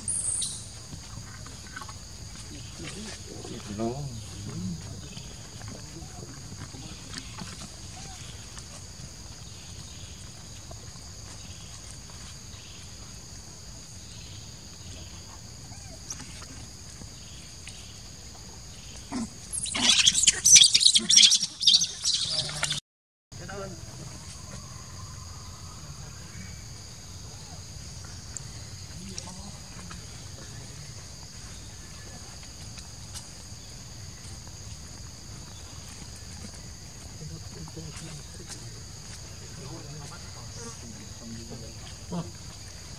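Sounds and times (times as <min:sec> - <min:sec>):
insects buzzing: 0:00.0 - 0:22.8, 0:23.4 - 0:42.9.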